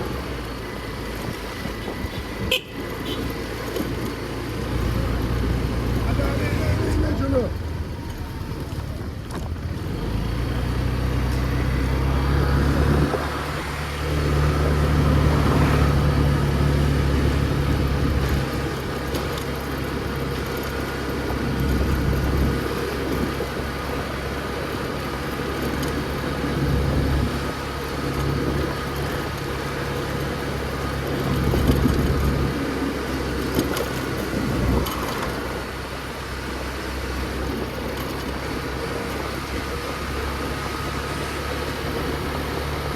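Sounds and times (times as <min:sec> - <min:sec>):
motor scooter engine revving: 0:00.0 - 0:42.9
road and traffic noise: 0:00.0 - 0:42.9.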